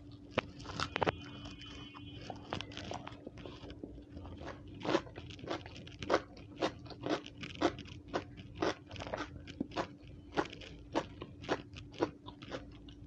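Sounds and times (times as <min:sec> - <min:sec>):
eggplant bitten with crisp crunches: 0:00.0 - 0:13.0.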